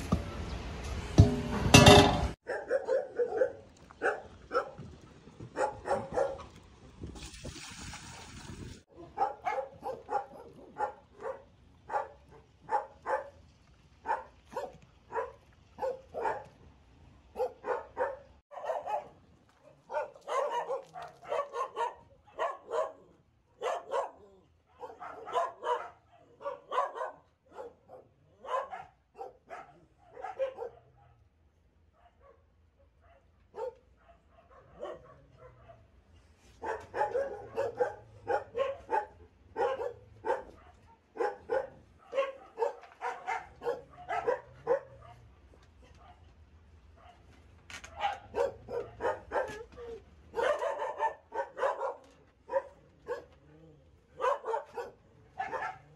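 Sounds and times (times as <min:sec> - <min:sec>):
dogs barking: 0:01.8 - 0:04.8, 0:05.5 - 0:06.5, 0:08.9 - 0:13.4, 0:14.0 - 0:16.6, 0:17.3 - 0:31.3, 0:31.9 - 0:36.0, 0:36.6 - 0:55.9.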